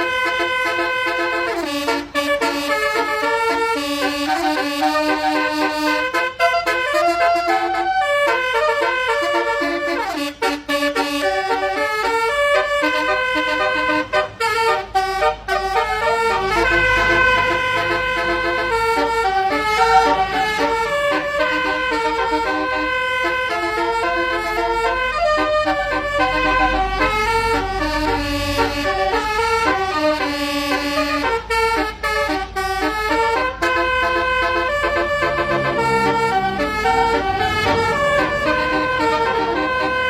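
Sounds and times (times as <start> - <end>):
low engine rumble: 0.0 - 40.0
multi-tone air horns playing tune: 0.0 - 40.0.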